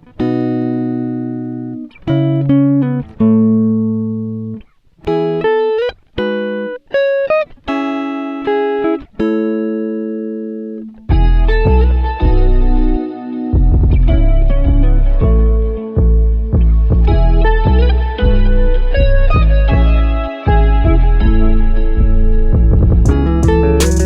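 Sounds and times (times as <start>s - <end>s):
guitar playing slow notes: 0.0s - 24.0s.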